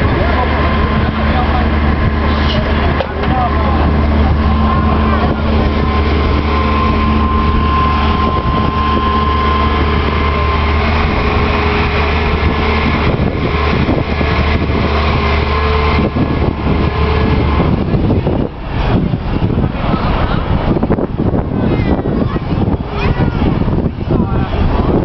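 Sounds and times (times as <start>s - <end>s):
faint whine: 0.0s - 25.0s
large engine droning: 0.0s - 25.0s.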